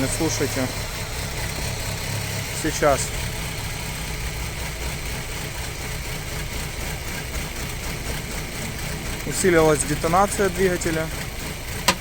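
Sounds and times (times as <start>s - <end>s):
car engine idling: 0.0s - 12.0s
engine knocking: 0.0s - 12.0s.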